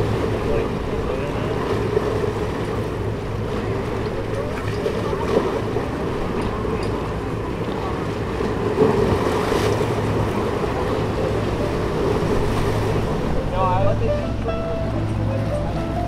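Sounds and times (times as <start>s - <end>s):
low ship hum: 0.0s - 16.0s
surf washing at the shoreline: 0.0s - 16.0s
wind: 0.0s - 16.0s.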